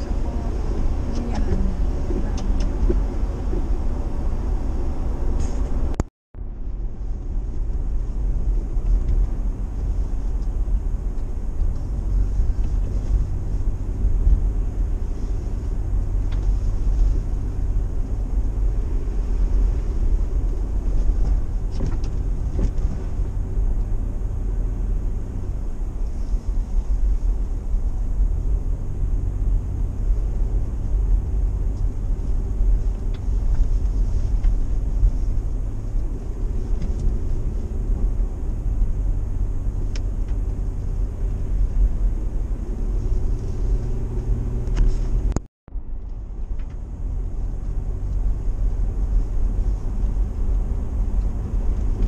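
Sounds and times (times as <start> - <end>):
car engine rumble: 0.0 - 52.0
road noise: 0.0 - 52.0.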